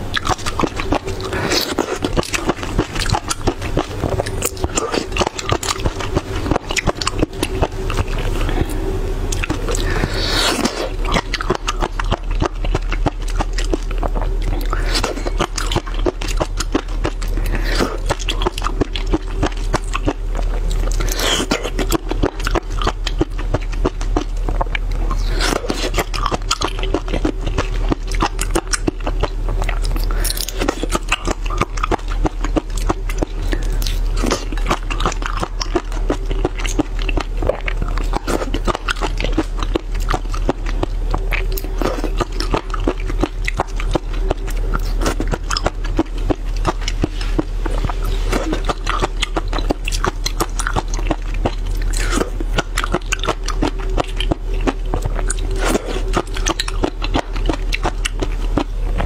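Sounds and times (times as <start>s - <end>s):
chewing wet clicks and crunches: 0.1s - 10.0s, 10.6s - 59.0s.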